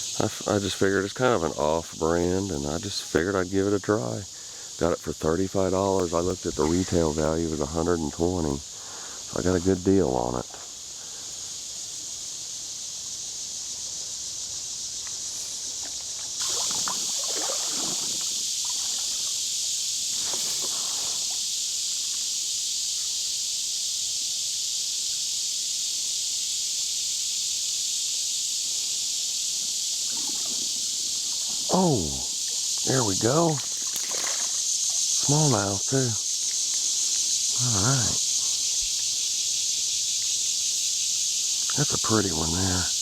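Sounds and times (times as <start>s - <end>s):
insect chorus buzzing: 0.0s - 43.0s.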